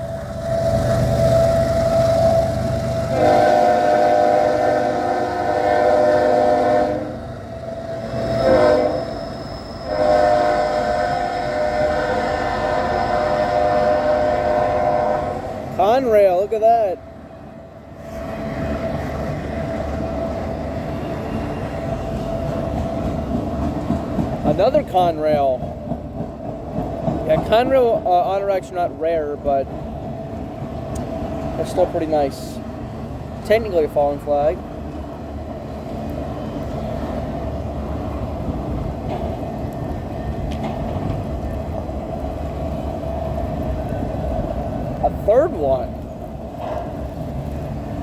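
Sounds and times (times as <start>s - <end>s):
steel wheels rumbling on rail: 0.0s - 48.0s.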